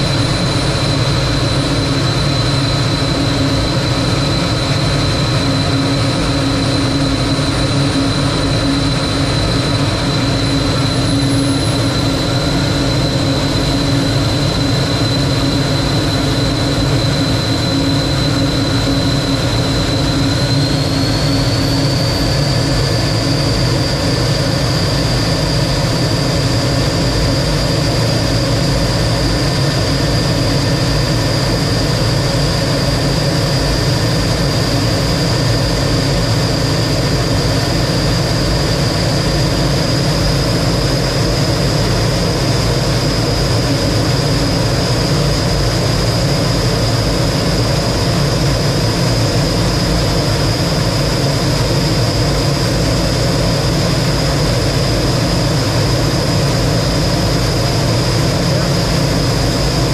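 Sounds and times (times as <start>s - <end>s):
jet engine rush and whine: 0.0s - 59.9s.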